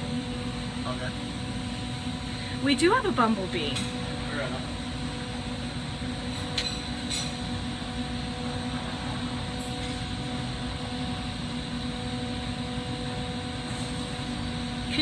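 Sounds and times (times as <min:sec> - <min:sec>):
steady multi-tone hum: 0:00.0 - 0:15.0
torch flame and ventilation roar: 0:00.0 - 0:15.0.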